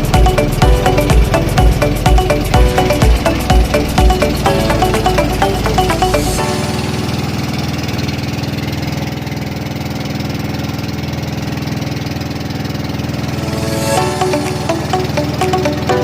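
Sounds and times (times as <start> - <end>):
small engine running: 0.0 - 14.4.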